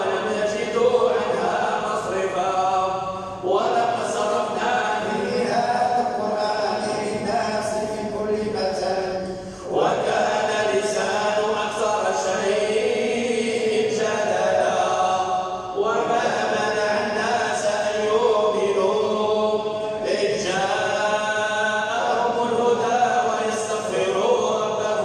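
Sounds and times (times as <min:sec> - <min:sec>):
person chanting recitation: 0:00.0 - 0:25.0.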